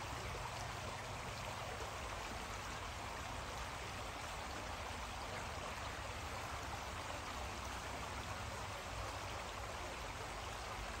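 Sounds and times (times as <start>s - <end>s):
creek flowing: 0.0s - 11.0s.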